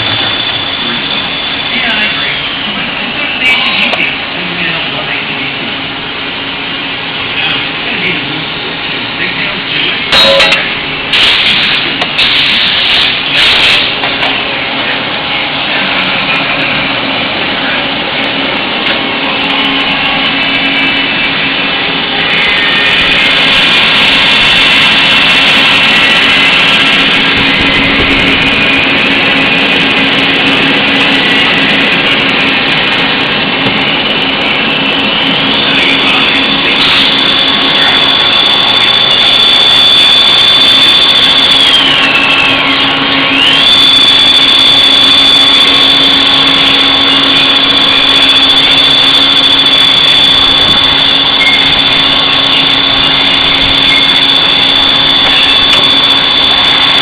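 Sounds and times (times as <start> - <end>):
machine whine: 0.0 - 57.0.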